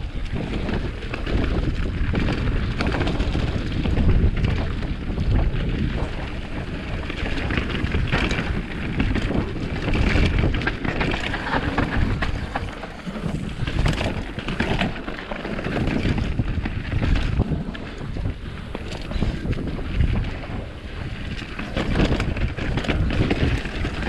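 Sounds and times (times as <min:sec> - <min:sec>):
bike clicks and rattles: 0:00.0 - 0:24.0
bike tyre noise: 0:00.0 - 0:24.0
wind buffeting microphone: 0:00.0 - 0:24.0.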